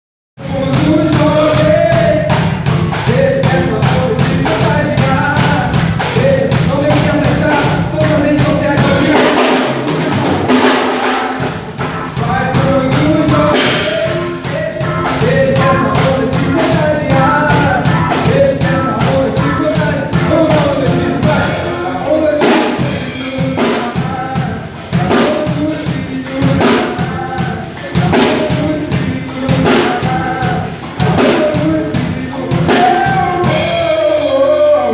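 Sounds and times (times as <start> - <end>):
band playing a song: 0.4 - 34.9
drum kit beat: 0.4 - 34.9
person singing: 0.4 - 34.9.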